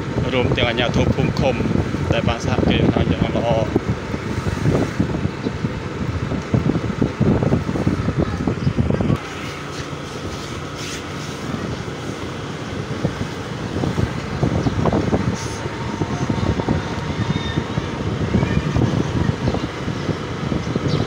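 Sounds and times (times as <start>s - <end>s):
motor scooter running: 0.0s - 21.0s
wind buffeting microphone: 0.0s - 21.0s.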